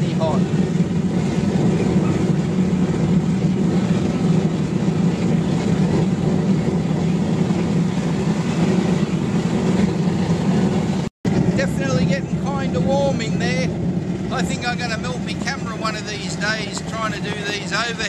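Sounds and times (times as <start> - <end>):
blower low hum: 0.0 - 18.0
burner flame roaring: 0.0 - 18.0.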